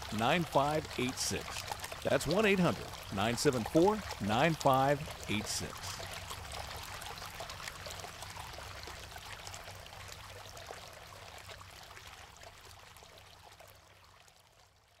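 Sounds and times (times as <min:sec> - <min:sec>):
fountain water trickling onto rocks: 0:00.0 - 0:15.0.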